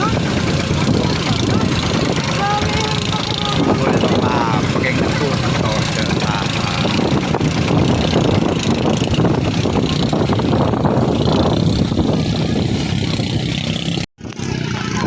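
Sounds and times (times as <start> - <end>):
boat engine running: 0.0 - 15.0
water noise: 0.0 - 15.0
wind: 0.0 - 15.0.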